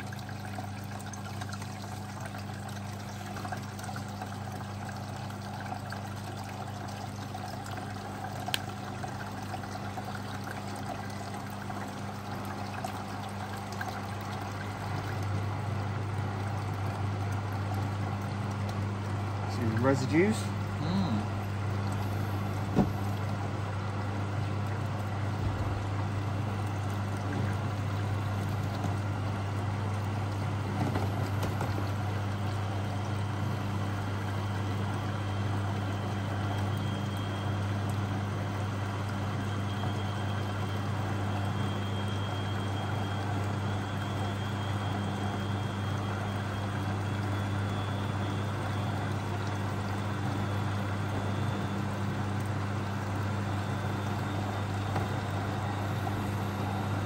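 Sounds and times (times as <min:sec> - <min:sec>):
washing machine pump humming: 0:00.0 - 0:57.0.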